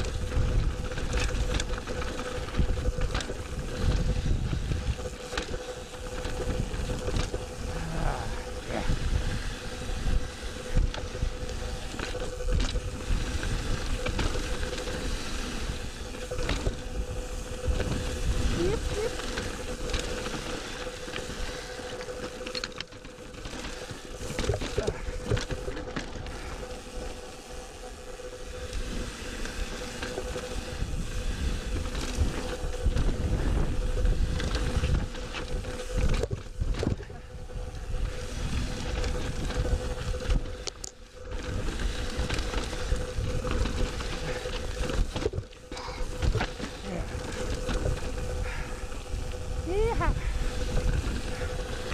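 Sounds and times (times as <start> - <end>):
wind buffeting microphone: 0.0 - 21.8, 28.4 - 51.9
bike rattling over bumps: 0.0 - 51.9.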